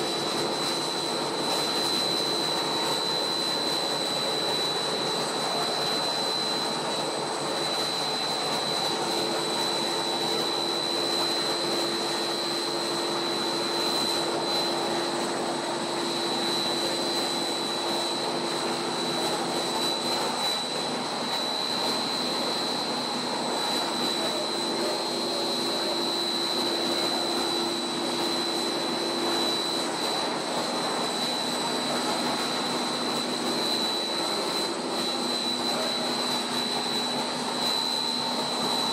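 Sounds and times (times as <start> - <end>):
constant high whine: 0.0 - 38.9
machine motors and air blowers: 0.0 - 38.9.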